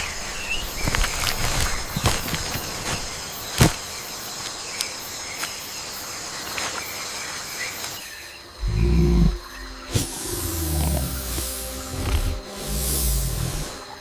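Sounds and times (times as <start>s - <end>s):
insects shrilling: 0.0s - 5.8s, 6.5s - 14.0s.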